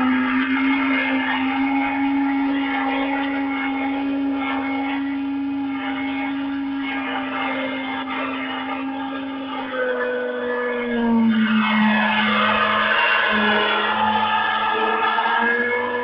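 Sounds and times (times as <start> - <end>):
model helicopter engine buzzing: 0.0 - 16.0.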